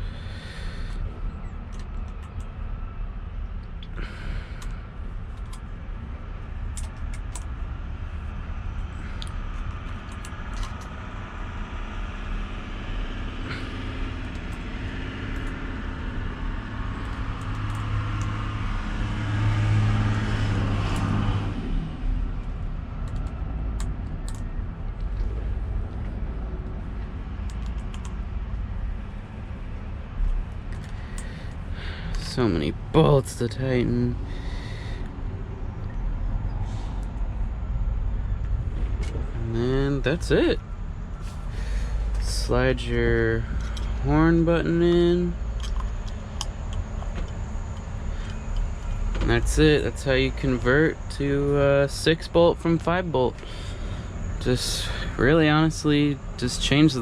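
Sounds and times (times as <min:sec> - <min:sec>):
engine hum: 0:00.0 - 0:57.0
steady low rumble: 0:00.0 - 0:57.0.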